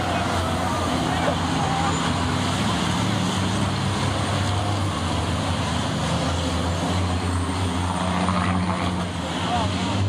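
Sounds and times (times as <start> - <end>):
diesel truck engines droning: 0.0 - 10.0.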